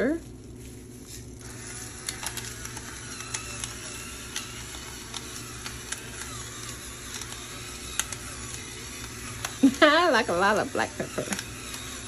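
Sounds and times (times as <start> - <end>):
pepper grinder motor whirring: 0.0 - 12.0
peppercorns cracking: 0.0 - 12.0.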